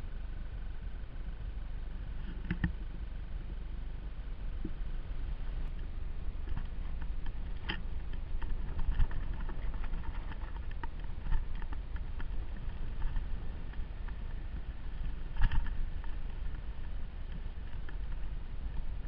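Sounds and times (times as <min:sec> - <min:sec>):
wind and ride rumble: 0:00.0 - 0:19.0.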